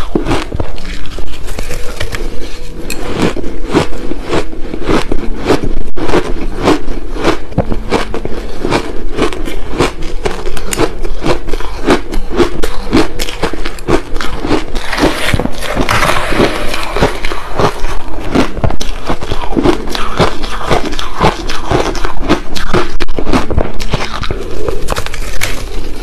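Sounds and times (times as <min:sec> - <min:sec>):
chewing crushed ice: 0:00.0 - 0:26.0.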